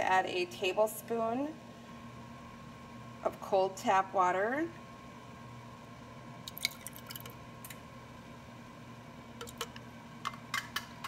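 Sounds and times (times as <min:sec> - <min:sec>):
air fryer humming: 0:00.0 - 0:11.0.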